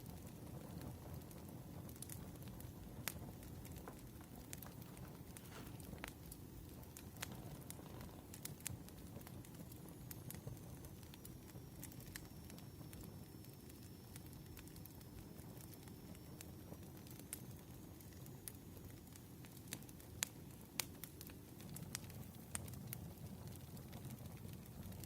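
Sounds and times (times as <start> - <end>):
firewood crackling and popping: 0.0 - 25.0.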